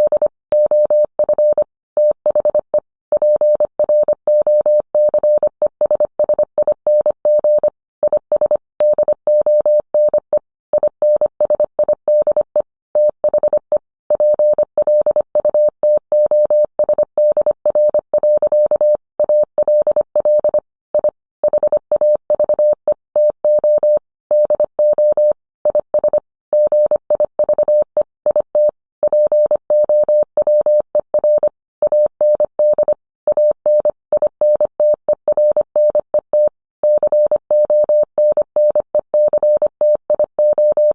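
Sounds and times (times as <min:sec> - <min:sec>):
morse code beeps: 0:00.0 - 0:40.9.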